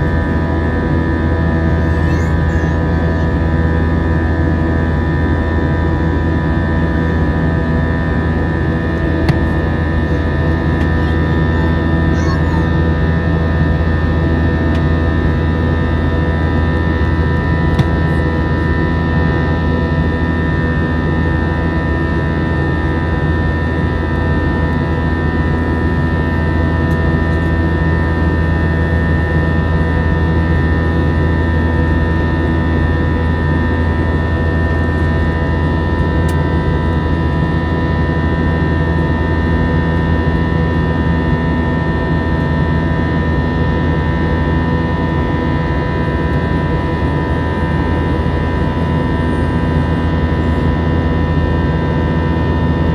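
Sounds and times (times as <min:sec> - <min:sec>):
high engine whines: 0:00.0 - 0:52.9
jet engines droning: 0:00.0 - 0:52.9.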